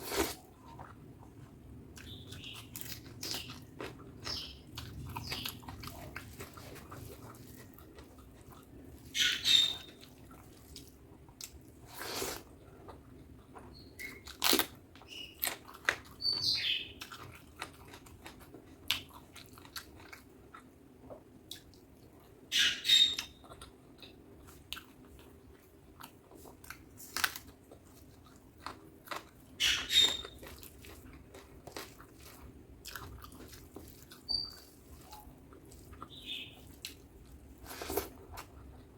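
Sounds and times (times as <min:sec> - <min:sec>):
person chewing food: 0:00.0 - 0:22.5, 0:23.4 - 0:38.9.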